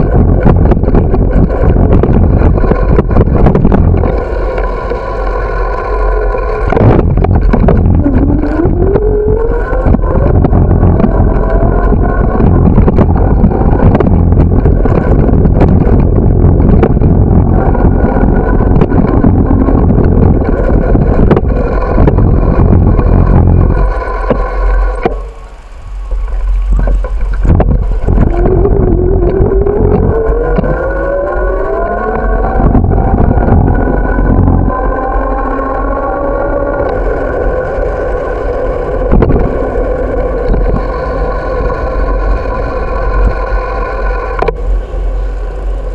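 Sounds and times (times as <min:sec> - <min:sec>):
camera rattling on bicycle: 0:00.0 - 0:45.9
rising whine: 0:00.0 - 0:45.9
wind rumble: 0:00.0 - 0:45.9.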